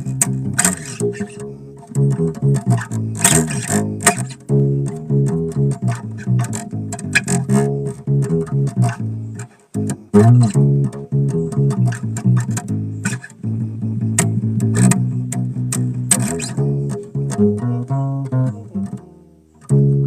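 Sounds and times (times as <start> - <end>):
bass guitar plucked notes: 0.0 - 20.0.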